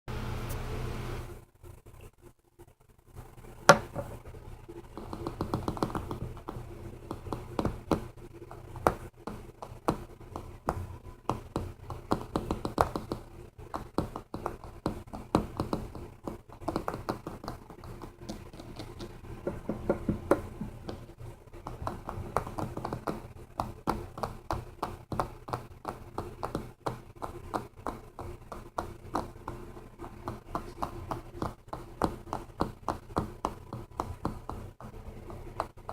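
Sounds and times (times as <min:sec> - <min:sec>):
steady low hum: 0:00.1 - 0:35.9
fingers tapping on objects: 0:03.6 - 0:04.2, 0:04.9 - 0:35.9.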